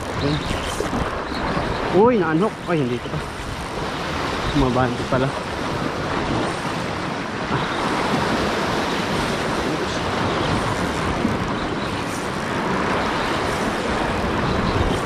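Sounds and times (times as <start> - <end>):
sea surf on rocky shore: 0.0 - 15.0
wind on microphone: 0.0 - 15.0.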